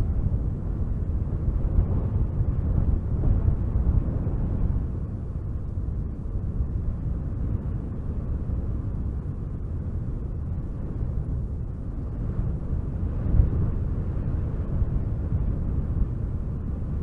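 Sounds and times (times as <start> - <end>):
wind blowing hard: 0.0 - 17.0.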